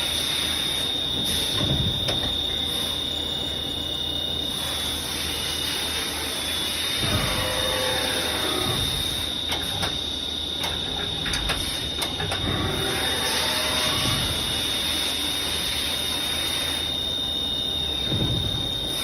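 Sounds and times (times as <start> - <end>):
machine high-pitched whine: 0.0 - 19.0.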